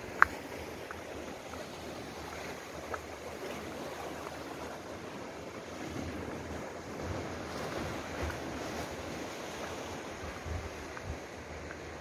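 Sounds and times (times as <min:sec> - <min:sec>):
sea waves washing against rocks: 0:00.0 - 0:12.0.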